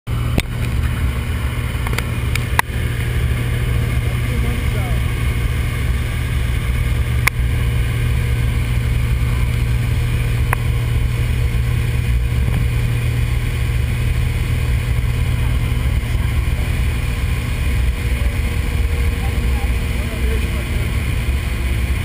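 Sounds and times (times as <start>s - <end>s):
aircraft engine and propeller droning: 0.1s - 22.0s.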